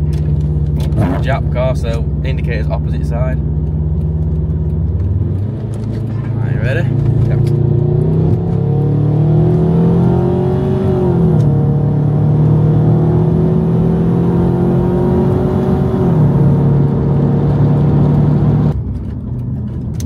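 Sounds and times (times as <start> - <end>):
car engine accelerating hard: 0.2 - 18.8.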